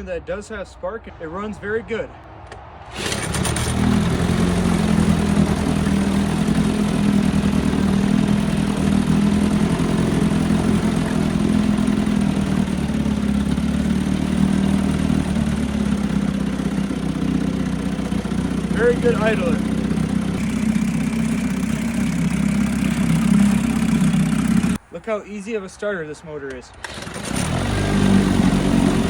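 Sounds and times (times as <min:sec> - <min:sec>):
outboard motor idling: 0:03.0 - 0:24.8, 0:26.8 - 0:29.0.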